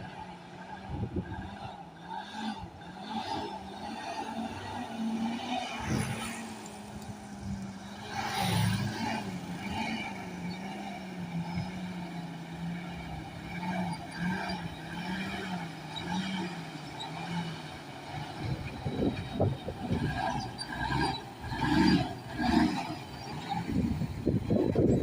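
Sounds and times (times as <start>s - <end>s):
heavy diesel engine running: 2.6s - 25.0s.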